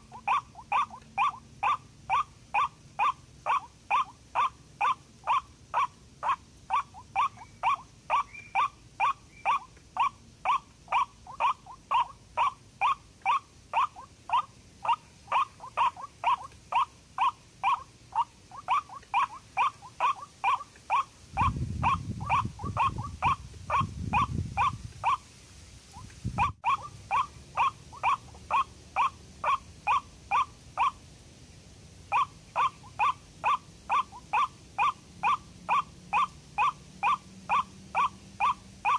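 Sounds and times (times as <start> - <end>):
waterhen calling: 0.0 - 31.1, 32.0 - 38.9.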